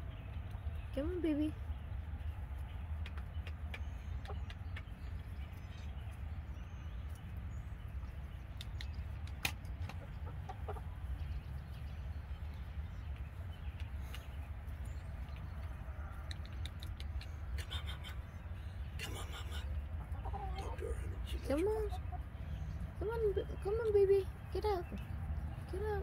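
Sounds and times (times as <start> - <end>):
chickens clucking: 2.5 - 6.1, 8.0 - 26.0.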